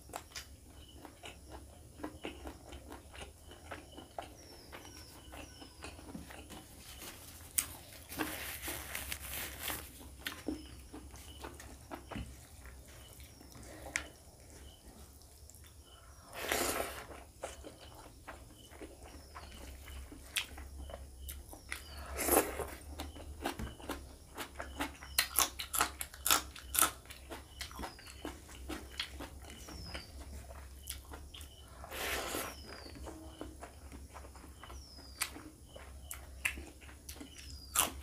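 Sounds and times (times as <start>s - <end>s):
man chewing food: 0.0s - 38.0s.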